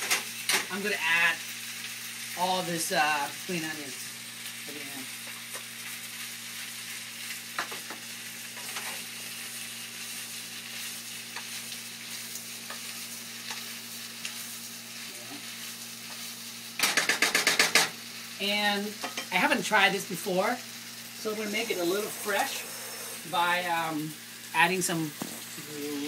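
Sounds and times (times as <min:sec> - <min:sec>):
pasta sizzling in a pan: 0:00.0 - 0:26.0.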